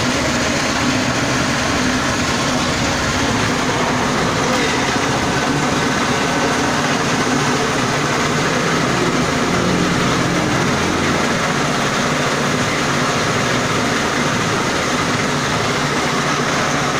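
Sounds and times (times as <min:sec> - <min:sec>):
small petrol engine running: 0:00.0 - 0:16.9
spinning rotor mechanical noise: 0:00.0 - 0:16.9.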